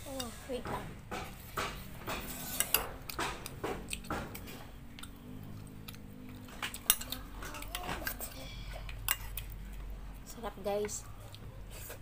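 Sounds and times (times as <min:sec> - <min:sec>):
people chewing: 0:01.2 - 0:12.0.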